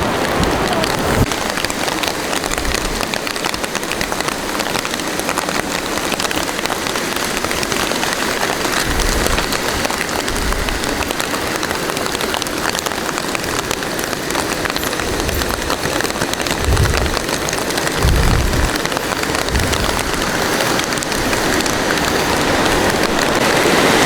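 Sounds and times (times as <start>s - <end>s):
rain drops pattering: 0.0s - 24.0s.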